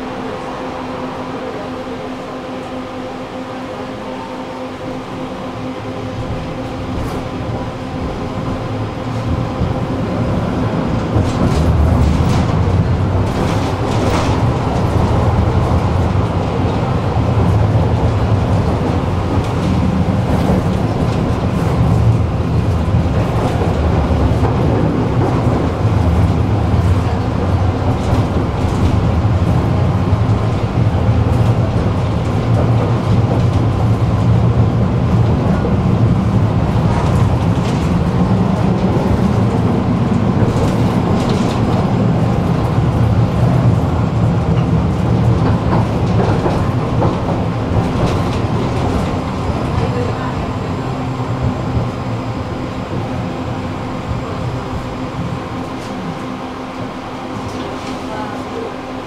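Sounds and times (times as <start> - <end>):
tram rumbling on rails: 0.0 - 59.0
rail clicks and rattles: 5.7 - 59.0.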